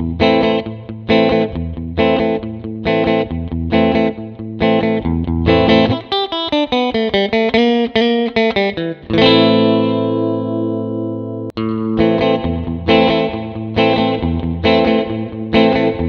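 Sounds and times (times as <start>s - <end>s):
surf electric guitar with reverb: 0.0s - 16.0s.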